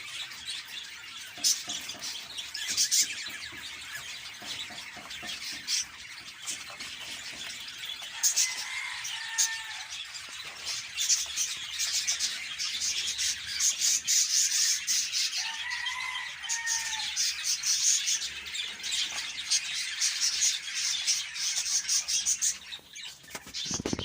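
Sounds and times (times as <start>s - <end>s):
budgerigars chattering and warbling: 0.0s - 24.0s.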